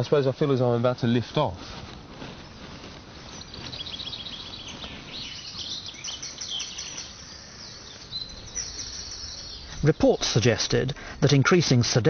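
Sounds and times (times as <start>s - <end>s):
birds chirping: 0.0s - 12.0s
faint background noise: 0.0s - 12.0s.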